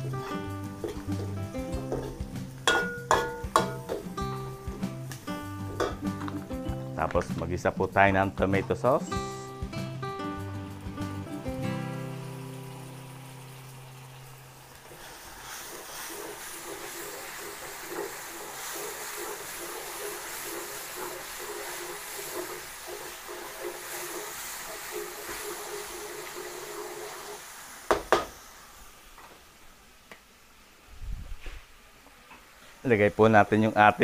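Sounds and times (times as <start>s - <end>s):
sauce sizzling in a pan: 0.0s - 30.8s.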